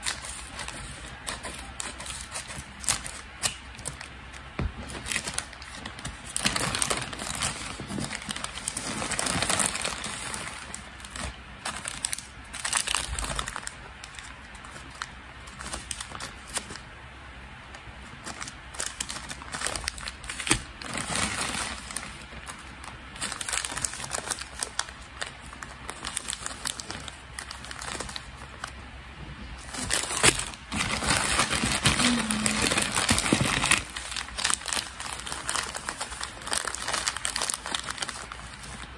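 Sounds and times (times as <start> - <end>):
plastic packaging crinkling: 0.0 - 16.9, 17.6 - 28.8, 29.6 - 38.9.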